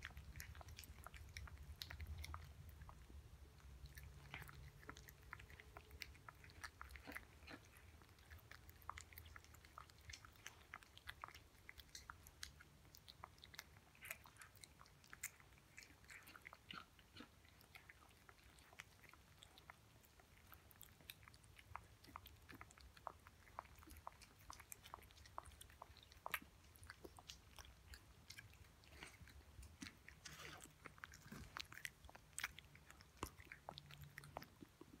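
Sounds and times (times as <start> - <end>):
cat chewing and licking: 0.0 - 35.0.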